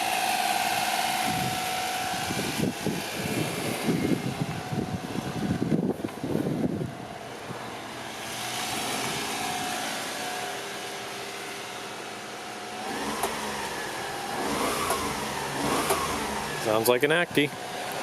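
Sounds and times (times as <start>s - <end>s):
small car engine revving: 0.0s - 5.8s, 7.4s - 18.0s.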